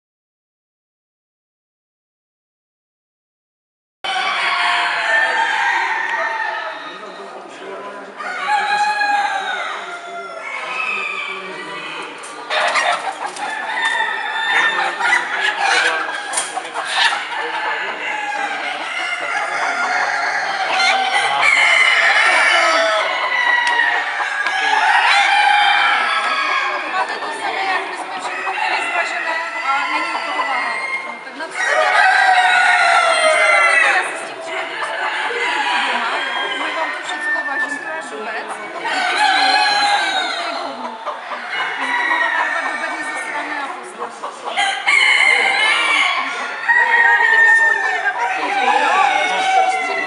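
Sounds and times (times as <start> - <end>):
roosters crowing: 4.1 - 7.4, 8.0 - 50.0
chickens clucking: 4.1 - 50.0.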